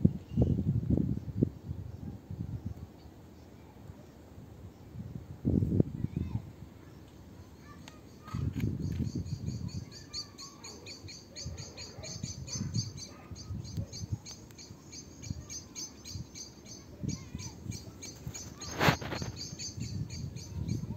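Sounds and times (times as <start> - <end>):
small birds chirping: 0.0 - 5.3, 6.0 - 20.9.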